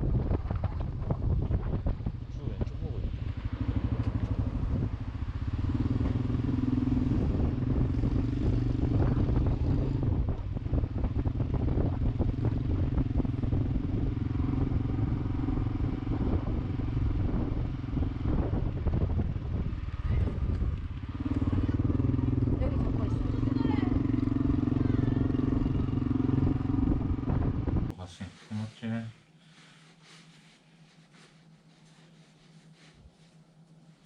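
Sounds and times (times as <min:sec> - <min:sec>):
small motorcycle engine running: 0:00.0 - 0:27.9.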